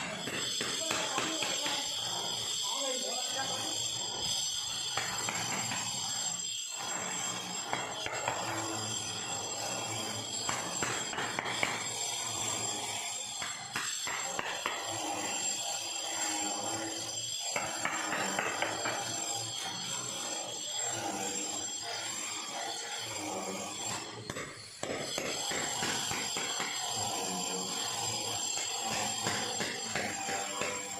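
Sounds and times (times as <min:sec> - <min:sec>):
hammer striking metal chisel: 0:00.0 - 0:02.4, 0:04.3 - 0:30.9
scraping under tiles: 0:00.0 - 0:30.9.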